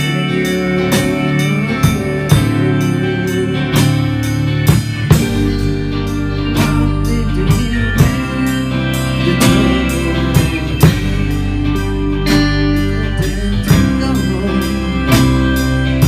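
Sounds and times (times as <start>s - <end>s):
bass: 0.0s - 16.0s
drum and cymbal hits: 0.0s - 16.0s
guitar: 0.0s - 16.0s.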